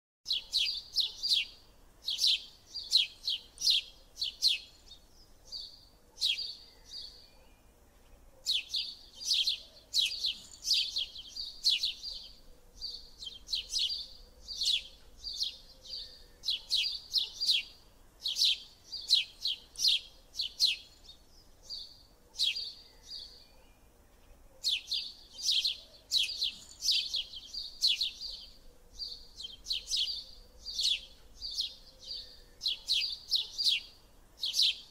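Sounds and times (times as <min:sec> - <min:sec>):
bird chirping: 0:00.3 - 0:34.9.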